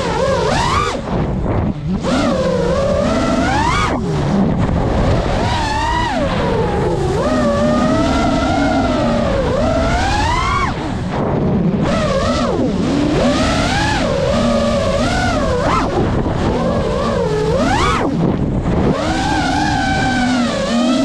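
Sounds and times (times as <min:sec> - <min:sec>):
drone motors whining: 0:00.0 - 0:21.0
steady low rush: 0:00.0 - 0:21.0.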